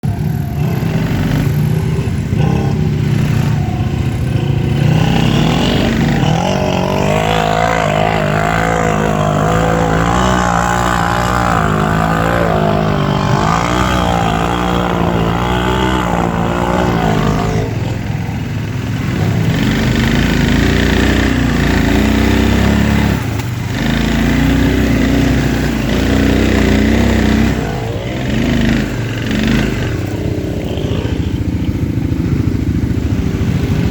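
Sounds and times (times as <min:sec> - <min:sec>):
atv engine revving: 0:00.0 - 0:33.9.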